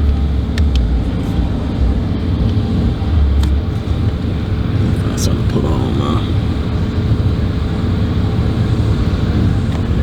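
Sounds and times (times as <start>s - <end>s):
car engine cruising: 0.0s - 10.0s
road rumble: 0.0s - 10.0s.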